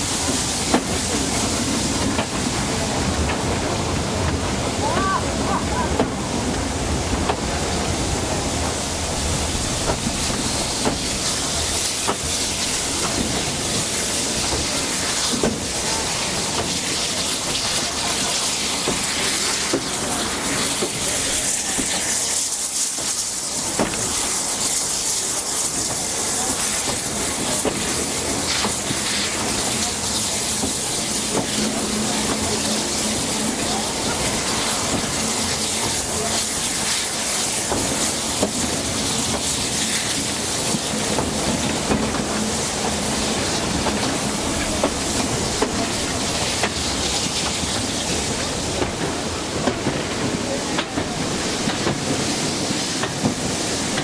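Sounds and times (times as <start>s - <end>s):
steam hissing: 0.0s - 54.0s
steam train rushing: 0.0s - 54.0s.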